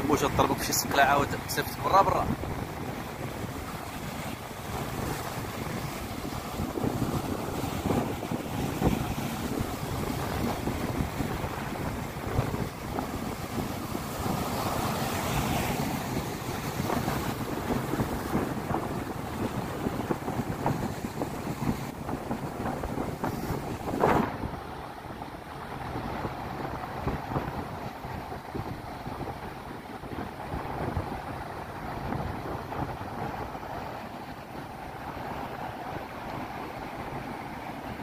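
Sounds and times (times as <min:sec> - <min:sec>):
surf breaking over rocks: 0:00.0 - 0:38.0
wind buffeting microphone: 0:00.0 - 0:38.0.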